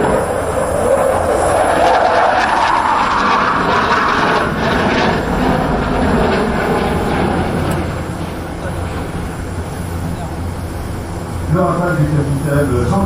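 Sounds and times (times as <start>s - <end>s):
fighter jet flying overhead: 0.0s - 13.0s.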